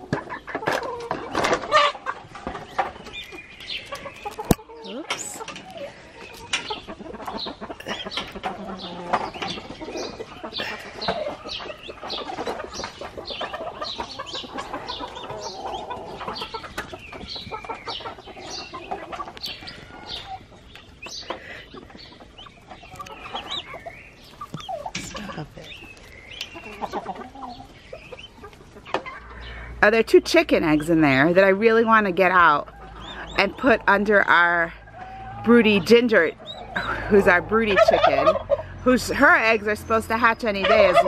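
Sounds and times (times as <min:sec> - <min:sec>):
turkey hen clucking: 0:00.0 - 0:41.0
turkey poults peeping: 0:00.0 - 0:41.0.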